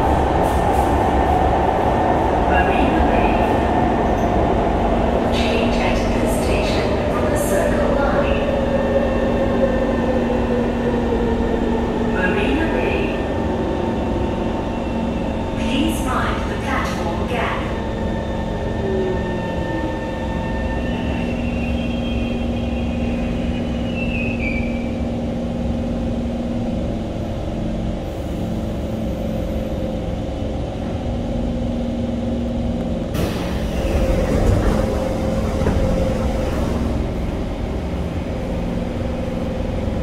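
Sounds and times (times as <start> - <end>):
metro train interior rumble: 0.0 - 40.0.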